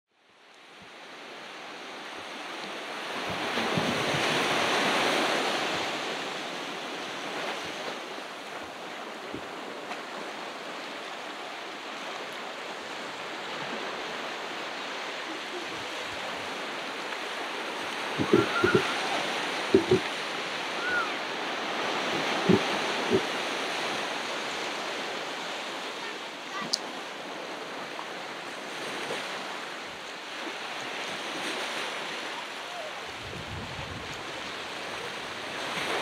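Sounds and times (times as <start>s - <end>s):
ocean waves breaking on beach: 0.2s - 36.0s.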